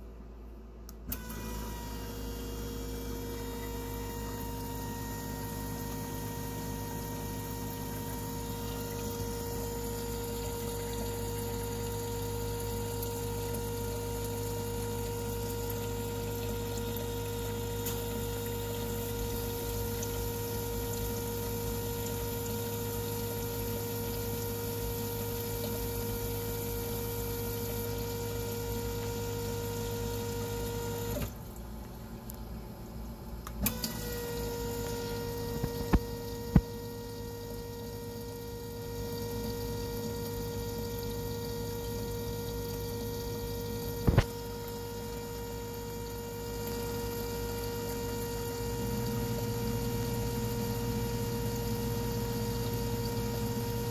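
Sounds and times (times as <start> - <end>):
pump humming: 0.8 - 53.9.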